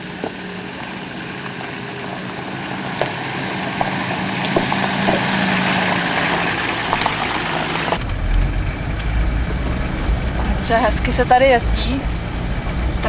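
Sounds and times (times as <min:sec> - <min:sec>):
stones crunching under tyres: 0:00.0 - 0:10.7
deep low rumble: 0:00.0 - 0:13.0
vehicle engine running: 0:00.0 - 0:13.0.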